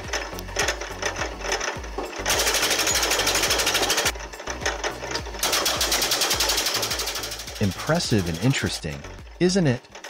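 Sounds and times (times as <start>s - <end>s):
wood-cutting machine clatter: 0.0s - 10.0s.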